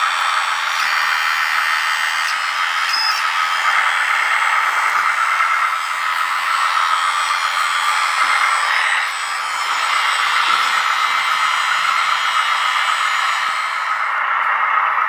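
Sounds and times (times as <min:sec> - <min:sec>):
electric motor and pump whirring: 0:00.0 - 0:15.0.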